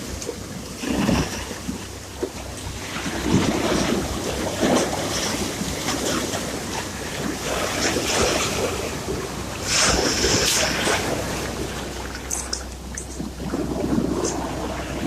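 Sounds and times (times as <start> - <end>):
waves washing in: 0.0 - 15.0.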